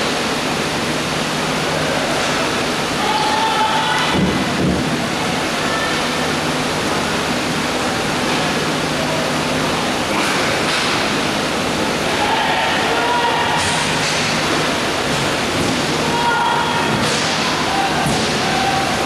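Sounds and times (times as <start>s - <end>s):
rushing background noise: 0.0s - 19.0s.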